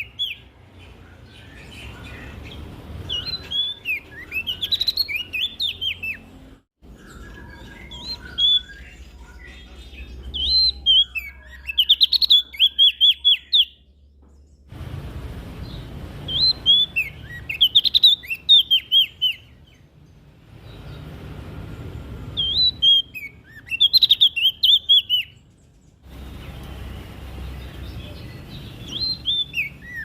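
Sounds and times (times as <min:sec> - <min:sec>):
songbird singing high chirps: 0:00.0 - 0:14.7, 0:15.6 - 0:21.2, 0:21.8 - 0:30.0.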